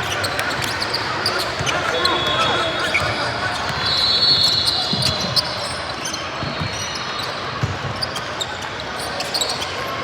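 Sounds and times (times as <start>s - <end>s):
spectators chattering: 0.0s - 10.0s.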